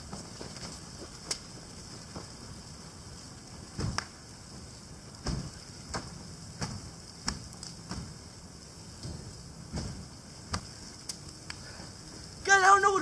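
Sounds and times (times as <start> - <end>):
faint steady hiss: 0.0 - 13.0
fire crackling and popping: 0.0 - 13.0.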